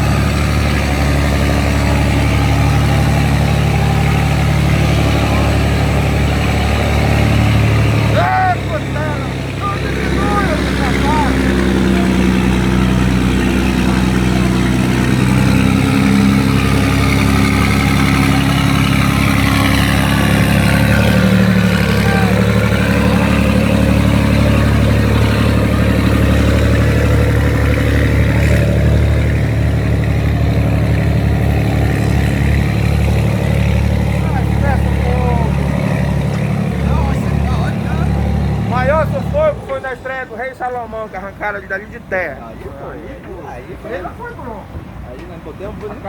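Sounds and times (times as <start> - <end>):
boat engine running hard: 0.0 - 41.6.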